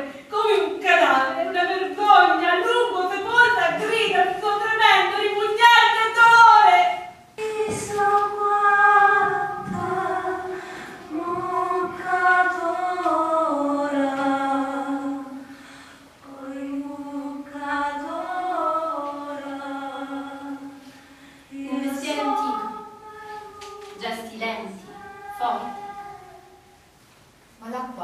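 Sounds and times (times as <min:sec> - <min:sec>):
women singing a cappella: 0:00.0 - 0:26.6.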